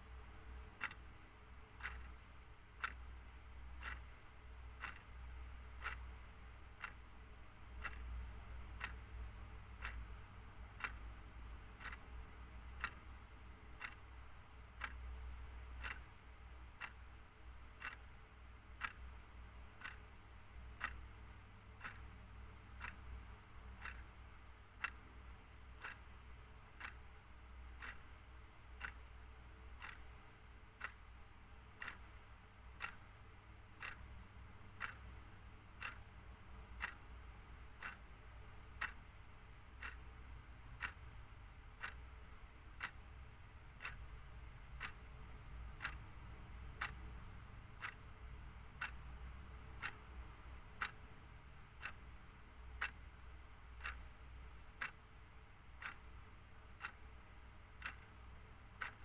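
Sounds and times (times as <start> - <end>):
clock ticking: 0.0 - 59.0
faint low hum: 0.0 - 59.0.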